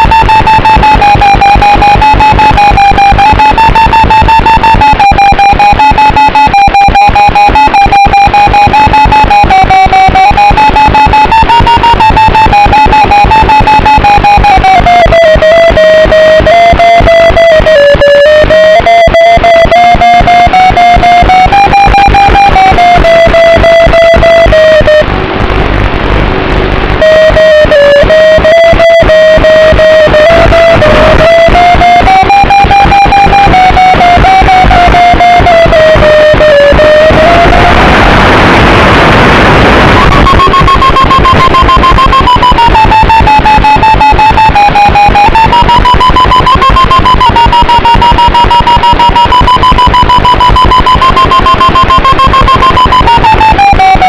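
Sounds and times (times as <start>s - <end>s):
fast music with distorted guitar: 0.0s - 54.0s.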